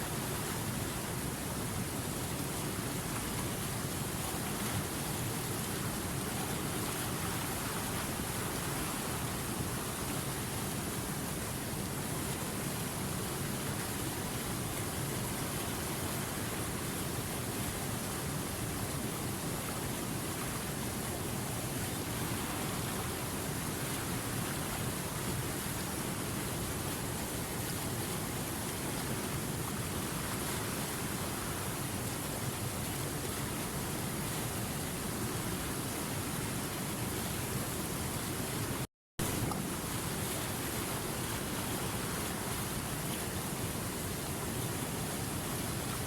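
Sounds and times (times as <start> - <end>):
river water rushing over rocks: 0.0 - 46.0.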